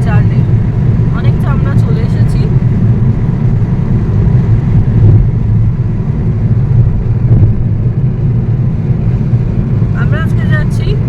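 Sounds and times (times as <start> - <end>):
car road rumble from inside: 0.0 - 11.0.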